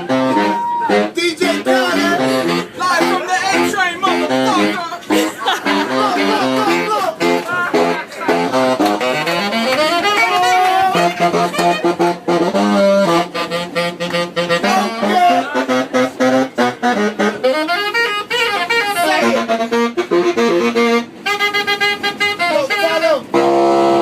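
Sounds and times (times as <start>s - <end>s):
saxophone playing jazz runs: 0.0s - 24.0s.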